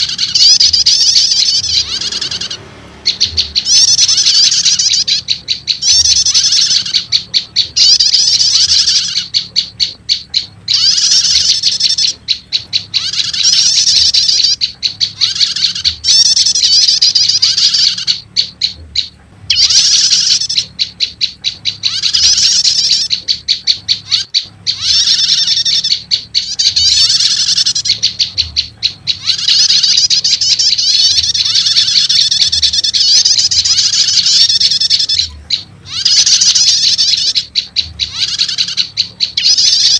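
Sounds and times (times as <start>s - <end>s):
bird high chattering chirps: 0.0s - 39.9s.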